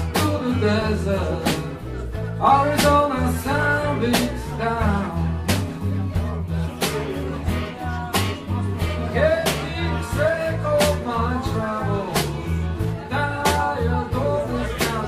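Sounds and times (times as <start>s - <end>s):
low bass line: 0.0s - 15.0s
man singing: 0.0s - 15.0s.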